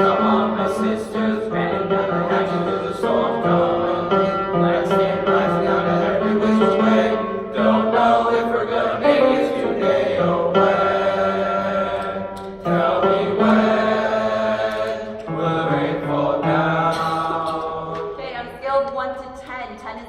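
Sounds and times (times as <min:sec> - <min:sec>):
male choir singing: 0:00.0 - 0:18.2.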